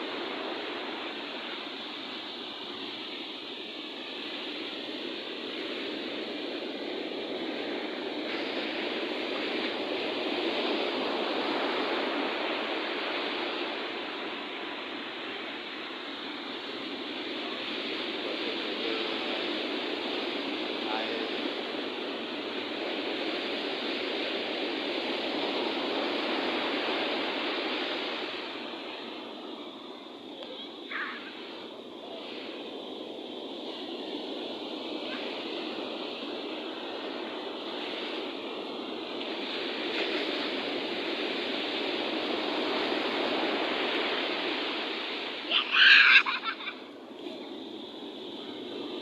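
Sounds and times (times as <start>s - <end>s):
sea waves washing on beach: 0.0s - 49.0s.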